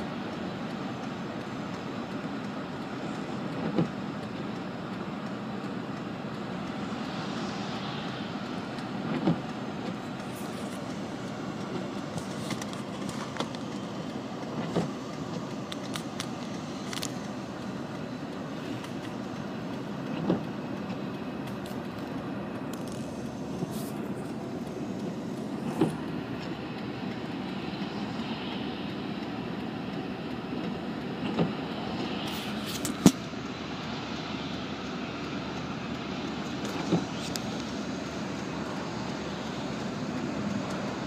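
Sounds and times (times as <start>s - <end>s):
freight train engines and wheels: 0.0s - 41.0s.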